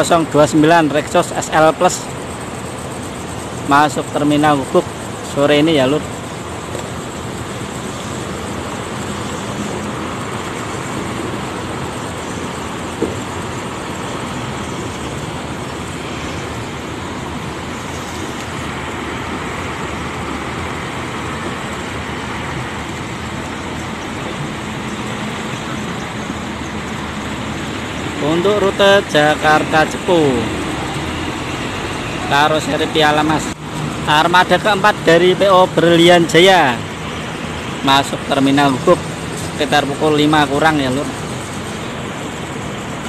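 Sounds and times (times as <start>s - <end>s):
bus diesel engine droning: 0.0s - 43.0s
traffic noise: 0.0s - 43.0s.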